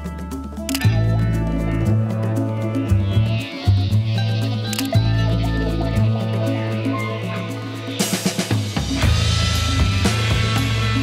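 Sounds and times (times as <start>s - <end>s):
band music with drums and bass: 0.0s - 11.0s.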